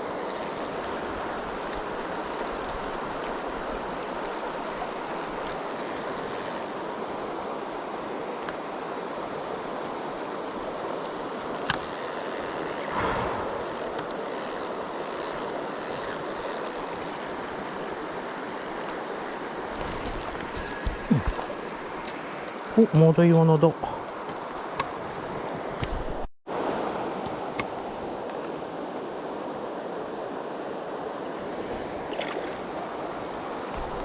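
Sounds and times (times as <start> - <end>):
stream water rushing: 0.0 - 34.0.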